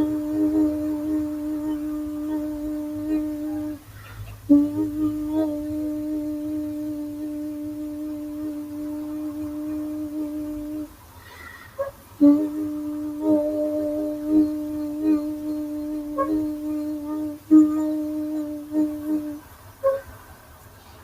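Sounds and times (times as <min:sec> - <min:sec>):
person humming a steady note: 0:00.0 - 0:20.1.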